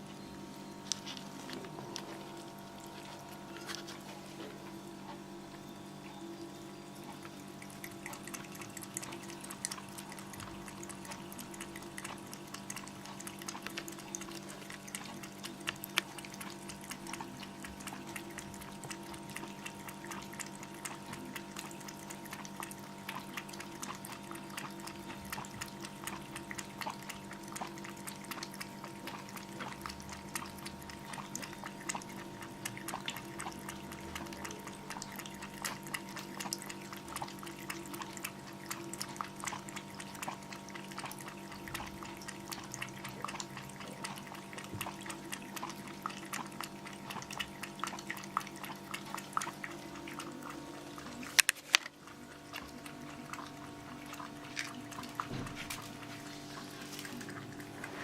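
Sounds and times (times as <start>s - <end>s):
kittens lapping and eating: 0.0s - 58.0s.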